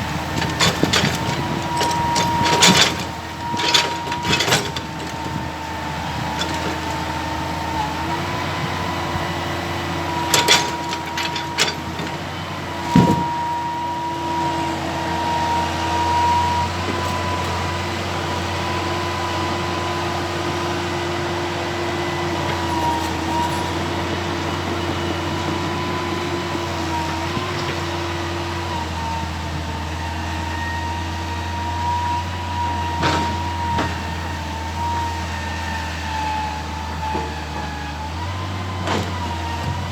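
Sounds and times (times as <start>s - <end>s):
excavator engine whining: 0.0s - 39.9s.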